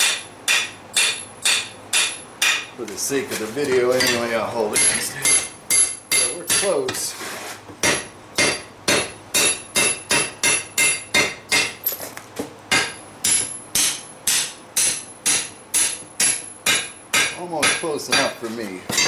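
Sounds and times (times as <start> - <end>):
hammer striking steel on anvil: 0.0 - 2.8, 3.9 - 7.0, 7.8 - 11.9, 12.7 - 19.0.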